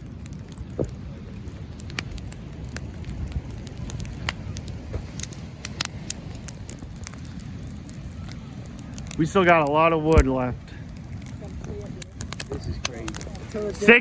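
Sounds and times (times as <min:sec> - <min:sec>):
bonfire crackling and popping: 0:00.0 - 0:14.0
steady low rumble: 0:00.0 - 0:14.0.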